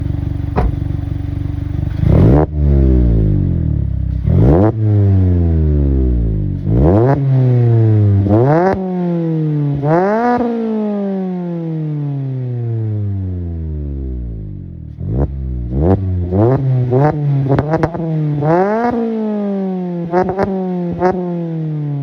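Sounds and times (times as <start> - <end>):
car engine revving: 0.0 - 13.0, 13.8 - 21.7.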